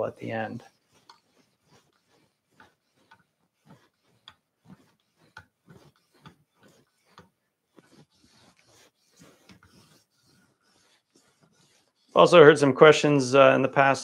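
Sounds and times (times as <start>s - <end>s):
sharpening stone scraping blade: 0.5s - 12.1s.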